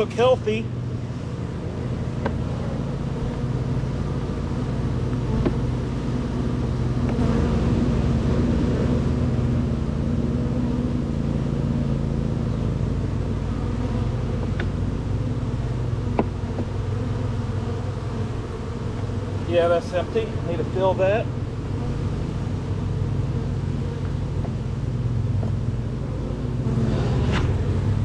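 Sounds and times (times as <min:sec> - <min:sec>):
bees buzzing: 0:00.0 - 0:28.0.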